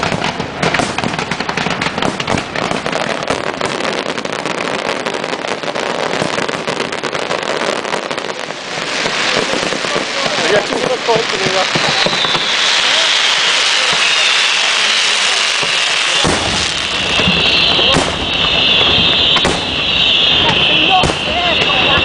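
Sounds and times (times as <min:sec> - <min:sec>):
fireworks bursting with bangs: 0:00.0 - 0:22.0.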